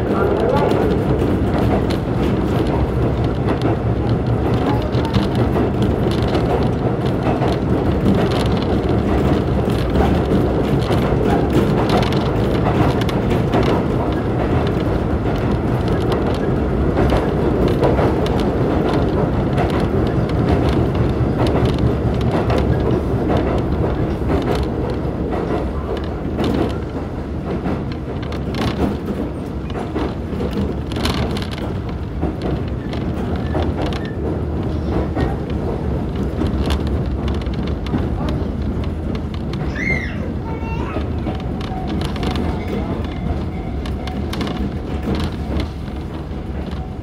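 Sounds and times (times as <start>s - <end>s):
clicks and knocks in train: 0.0s - 47.0s
train wheels rumbling: 0.0s - 47.0s.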